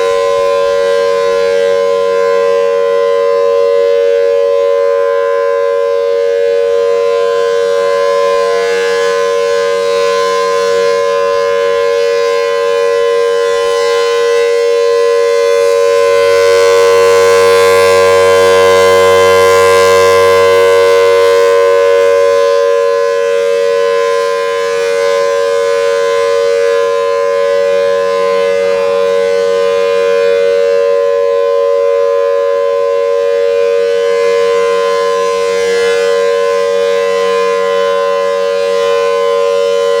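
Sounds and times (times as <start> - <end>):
multi-tone warning siren: 0.0 - 40.0.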